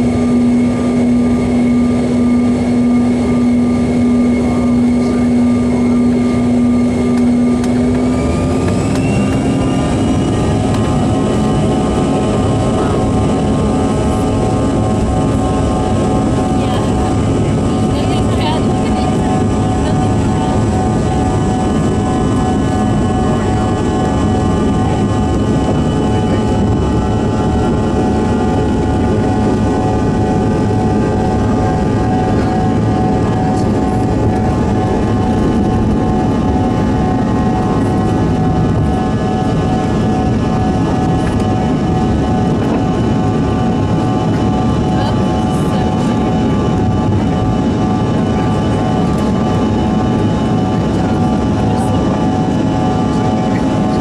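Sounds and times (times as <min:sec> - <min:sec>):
jet engine roar: 0:00.0 - 0:54.0.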